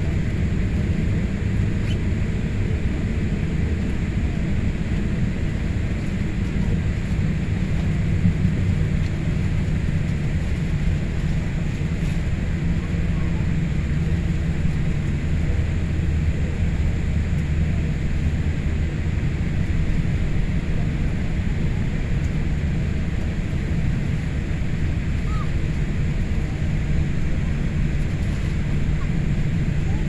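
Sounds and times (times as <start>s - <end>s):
aircraft cabin low rumble: 0.0s - 30.0s.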